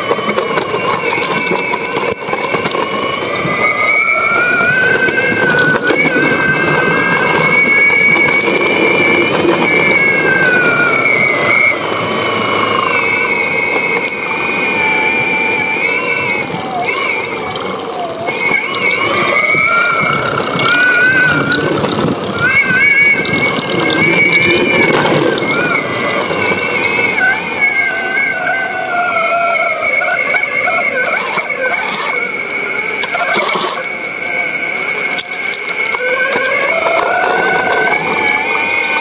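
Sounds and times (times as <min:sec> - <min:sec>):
electric motor whining: 0:00.0 - 0:39.0
hard wheels rolling on concrete: 0:00.0 - 0:39.0.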